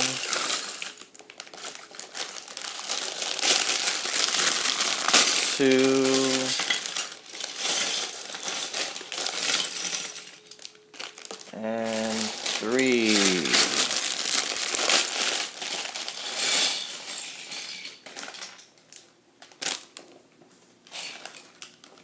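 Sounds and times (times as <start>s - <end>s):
small plastic pieces rattling: 0.0s - 18.8s, 20.9s - 22.0s
plastic bags crinkling: 0.0s - 20.2s, 20.8s - 22.0s.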